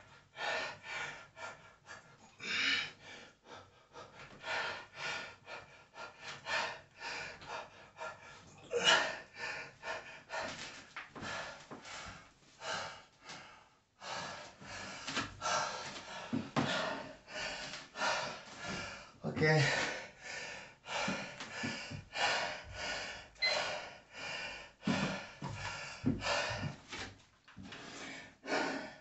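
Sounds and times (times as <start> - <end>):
man breathing hard and gasping: 0.0 - 27.0, 27.7 - 29.0.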